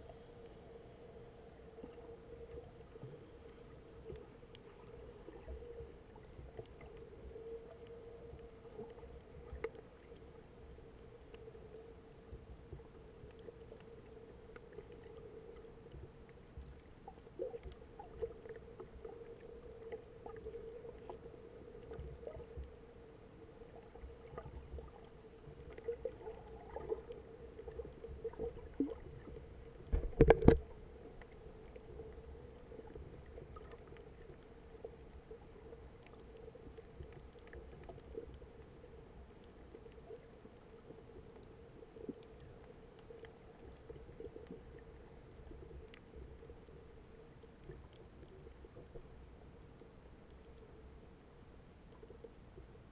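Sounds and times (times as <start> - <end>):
faint clicks and crackles: 0.0 - 52.9
steady underwater hum: 0.0 - 52.9.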